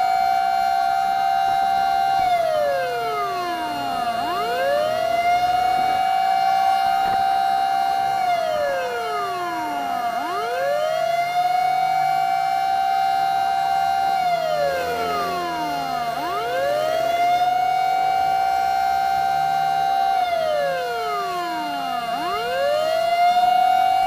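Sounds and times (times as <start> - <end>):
fire truck siren steady tone: 0.0 - 24.0
fire truck siren wailing: 0.0 - 24.0.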